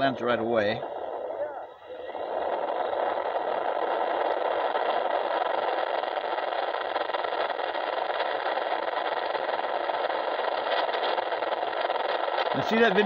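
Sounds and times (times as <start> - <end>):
electric motor and propeller: 0.0 - 13.0.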